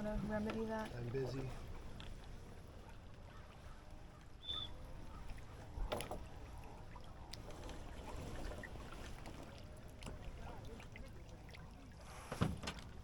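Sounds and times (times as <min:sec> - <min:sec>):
water rushing past boat: 0:00.0 - 0:13.0
wind: 0:00.0 - 0:13.0.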